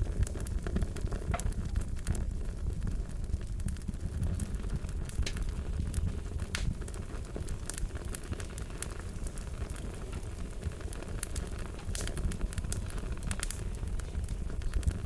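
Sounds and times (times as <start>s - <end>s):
low rumble of burning fire: 0.0s - 15.0s
wood fire popping and snapping: 0.0s - 15.0s.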